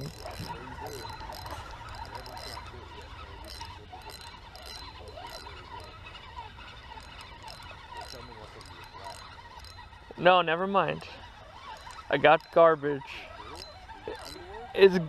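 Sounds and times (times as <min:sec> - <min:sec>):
fishing reel ticking: 0:00.0 - 0:15.0.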